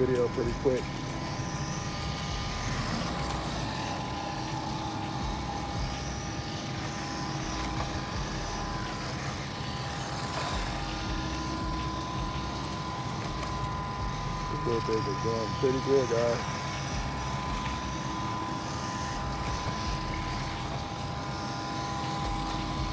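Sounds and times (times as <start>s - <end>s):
electric motor and gears whining: 0.0s - 22.9s
steady hum: 0.0s - 22.9s.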